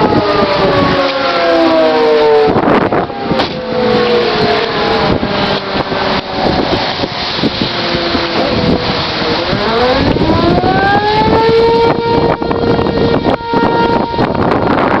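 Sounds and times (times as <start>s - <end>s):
rain: 0.0s - 15.0s
warning siren wailing: 0.0s - 15.0s
wind: 0.0s - 15.0s.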